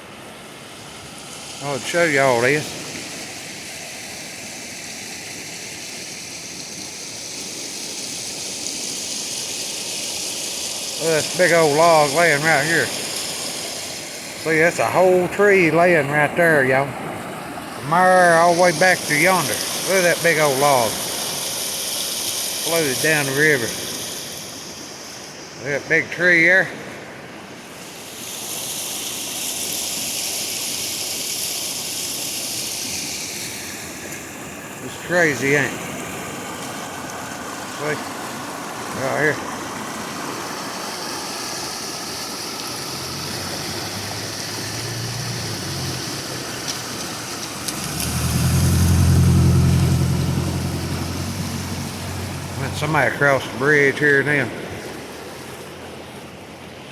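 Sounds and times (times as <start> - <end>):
river rushing: 0.0 - 56.9.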